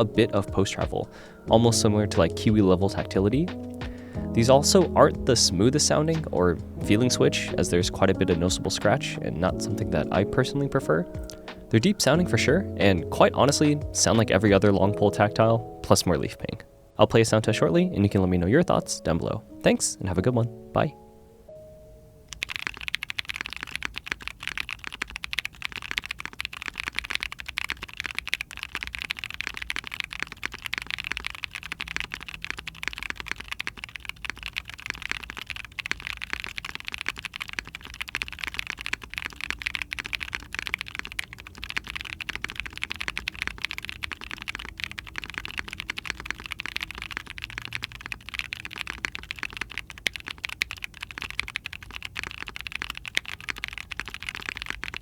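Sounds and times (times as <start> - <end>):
fast mechanical keyboard typing: 0.0 - 16.2, 22.3 - 55.0.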